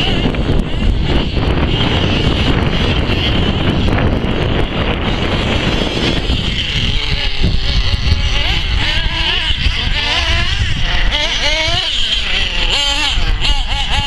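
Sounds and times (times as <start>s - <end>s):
motor revving: 0.0s - 14.0s
radio-controlled cars buzzing: 0.0s - 14.0s
wind buffeting microphone: 0.0s - 14.0s.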